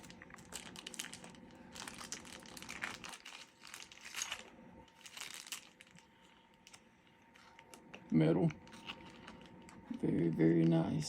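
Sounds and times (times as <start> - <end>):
packaging crinkling: 0.0 - 10.9.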